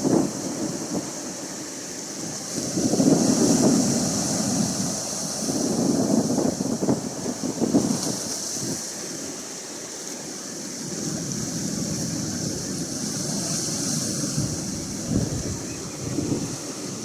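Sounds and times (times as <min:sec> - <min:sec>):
hiss of surf: 0:00.0 - 0:17.0
ocean waves washing in: 0:00.0 - 0:17.0.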